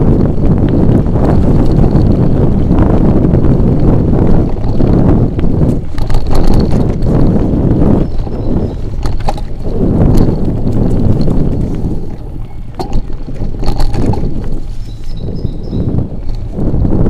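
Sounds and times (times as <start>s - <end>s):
bike clicks and rattles: 0.0s - 17.0s
tyres rumbling on dirt trail: 0.0s - 17.0s
wind noise on microphone: 0.0s - 17.0s.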